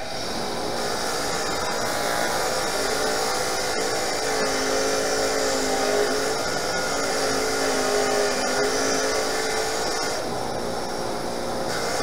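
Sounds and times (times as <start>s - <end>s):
bench grinder grinding metal: 0.0s - 12.0s.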